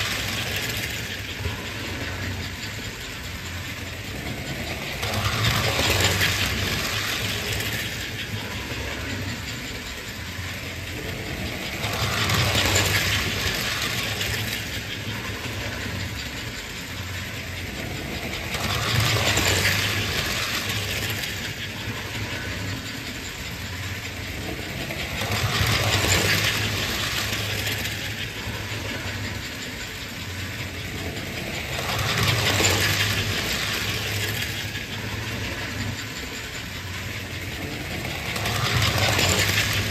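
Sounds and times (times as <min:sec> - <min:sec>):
toy train metallic rolling clatter: 0:00.0 - 0:39.9.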